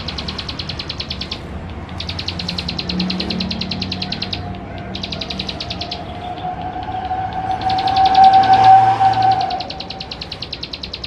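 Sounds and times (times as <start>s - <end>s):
bird trilling: 0.0s - 11.0s.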